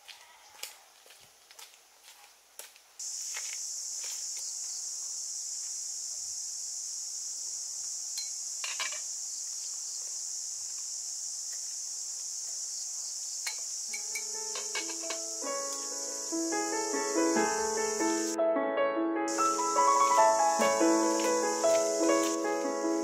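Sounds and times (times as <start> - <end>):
high-pitched insect drone: 3.0 - 18.4, 19.3 - 23.0.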